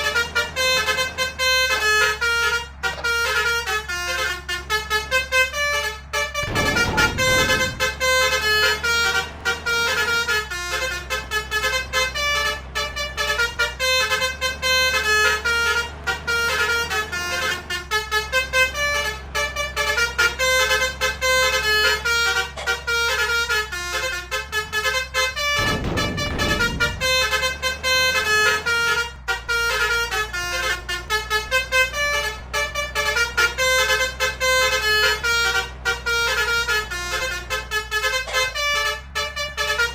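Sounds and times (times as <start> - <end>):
multi-tone bus horn tune: 0.0 - 39.9.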